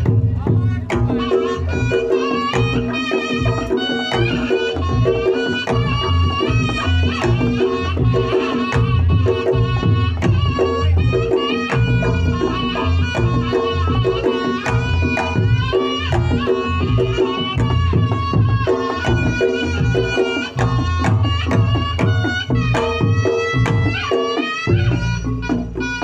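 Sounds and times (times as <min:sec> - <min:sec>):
fast hand drum strokes: 0:00.0 - 0:26.0.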